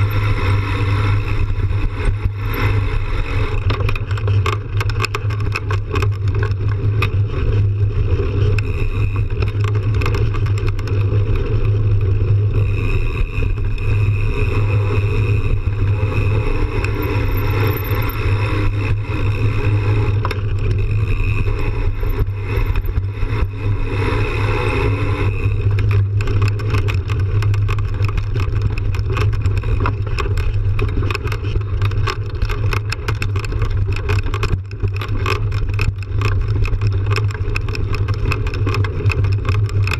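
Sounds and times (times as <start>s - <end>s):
bike rattles and knocks: 0.0s - 39.9s
wind rumble on microphone: 0.0s - 39.9s.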